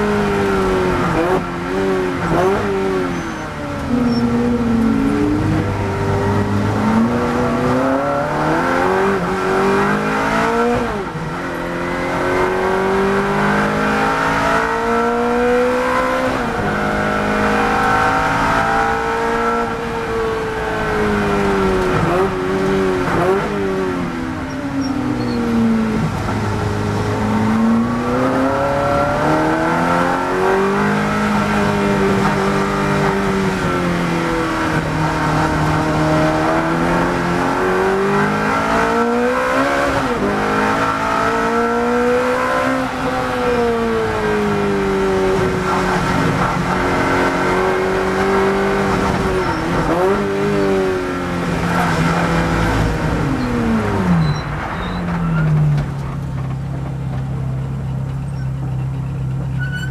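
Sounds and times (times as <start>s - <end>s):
race car engine accelerating: 0.0s - 56.5s.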